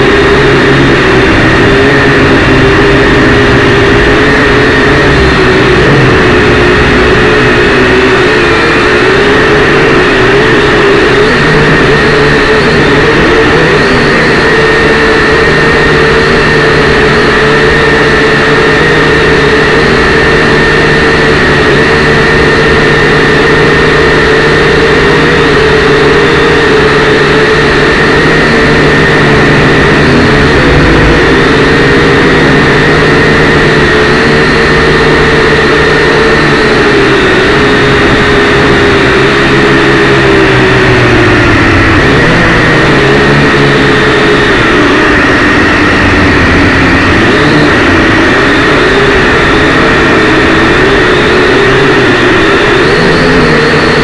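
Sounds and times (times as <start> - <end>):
toy drone motors whining: 0.0 - 54.0.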